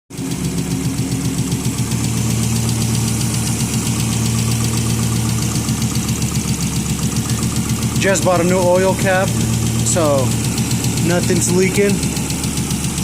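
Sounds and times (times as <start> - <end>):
car engine idling: 0.1 - 13.0
fast regular engine ticking: 0.1 - 13.0.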